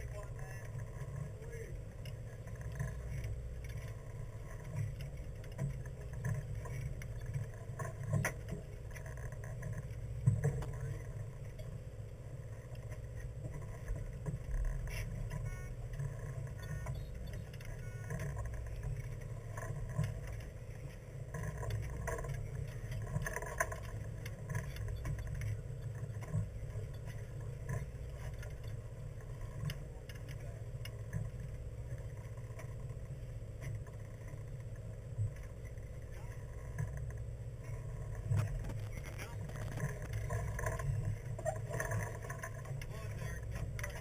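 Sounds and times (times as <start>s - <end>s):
boat low rumble: 0.0s - 44.0s
faint clicks and knocks: 0.0s - 44.0s.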